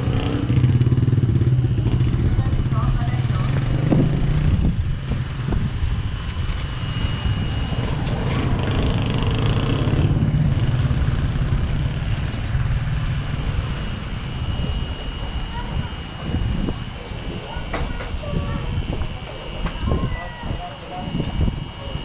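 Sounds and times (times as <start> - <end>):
thin high whine: 0.0 - 22.0
vehicle engine rumbling: 0.0 - 22.0.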